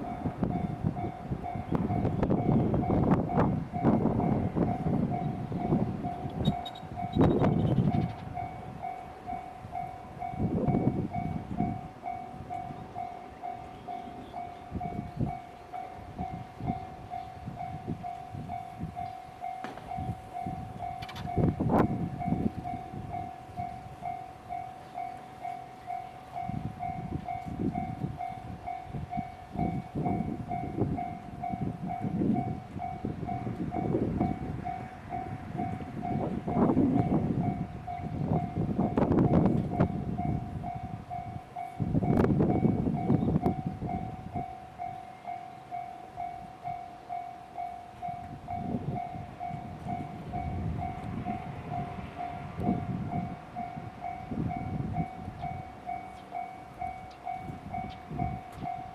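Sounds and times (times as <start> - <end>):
level-crossing warning bell: 0.0 - 58.9
train rumbling over crossing: 0.0 - 58.9.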